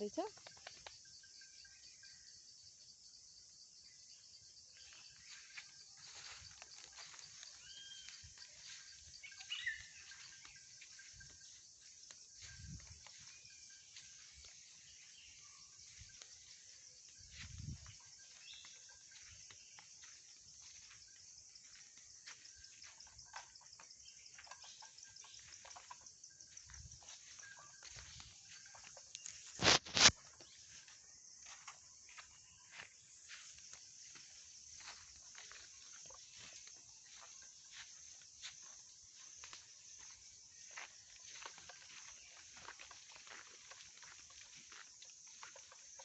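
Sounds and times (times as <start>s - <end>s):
insects trilling: 0.0s - 46.0s.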